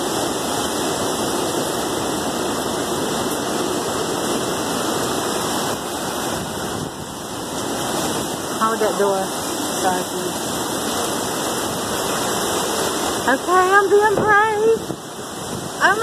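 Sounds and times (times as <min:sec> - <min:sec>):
driving rain: 0:00.0 - 0:16.0
strong wind: 0:00.0 - 0:16.0.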